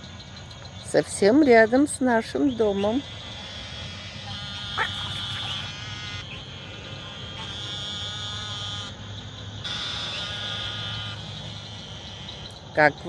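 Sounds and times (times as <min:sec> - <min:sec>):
frogs and insects chorus: 0:00.0 - 0:13.0.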